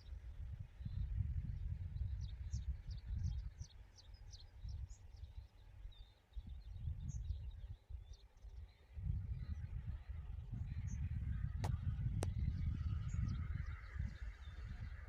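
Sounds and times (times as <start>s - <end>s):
wind rumbling on microphone: 0.0s - 15.0s
small birds chirping: 0.8s - 15.0s.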